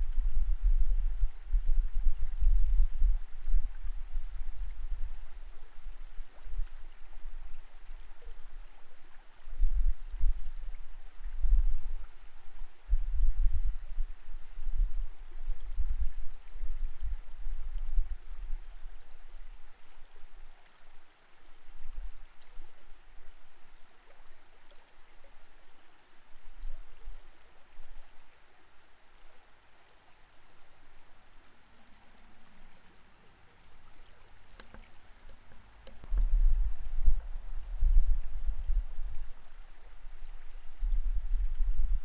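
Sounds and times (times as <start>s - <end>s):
underwater flowing water rush: 0.0s - 42.0s.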